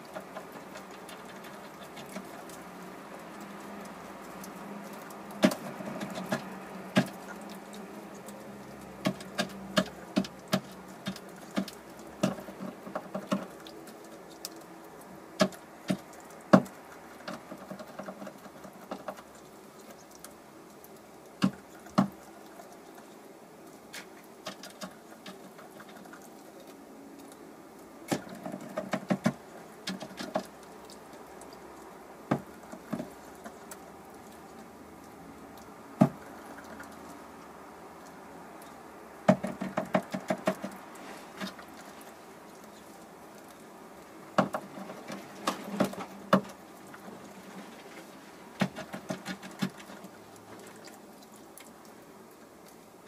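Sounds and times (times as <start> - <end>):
straw clicking and crackling: 0.0 - 53.0.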